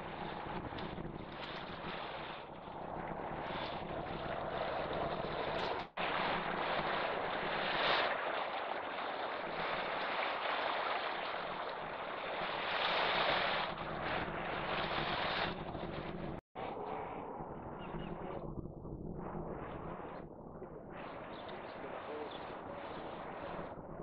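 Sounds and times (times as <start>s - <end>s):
water at the shore: 0.0s - 24.0s
wind: 0.0s - 24.0s.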